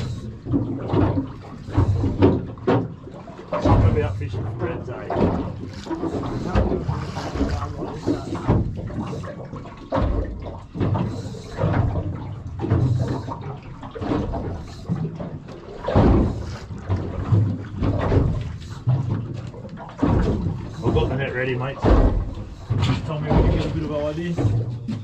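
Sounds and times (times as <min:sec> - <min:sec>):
water slapping against boat hull: 0:00.0 - 0:25.0.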